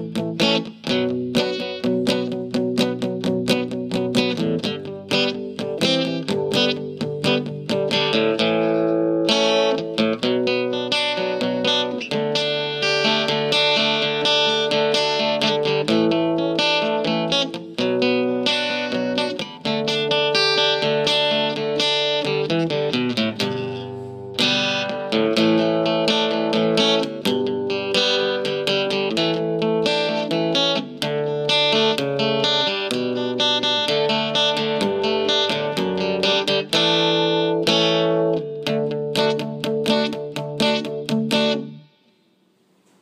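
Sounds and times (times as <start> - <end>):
acoustic guitar plucked tune: 0.0 - 43.0.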